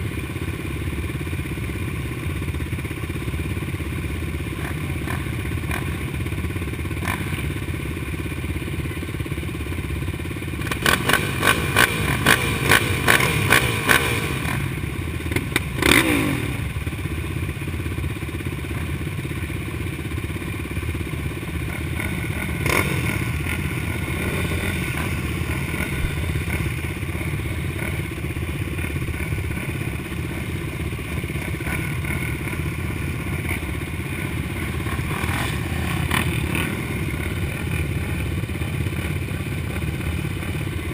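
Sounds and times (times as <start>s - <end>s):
motocross bike engine running: 0.0s - 40.9s.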